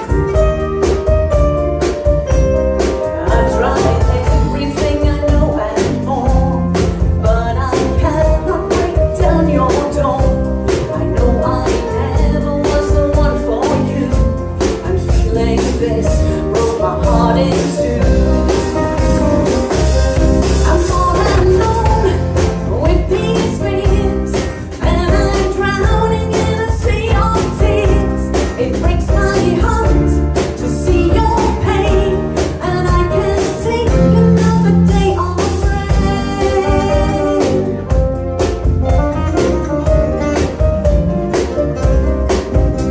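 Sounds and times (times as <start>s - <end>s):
drums and bass beat: 0.0s - 42.9s
slow rock song: 0.0s - 42.9s.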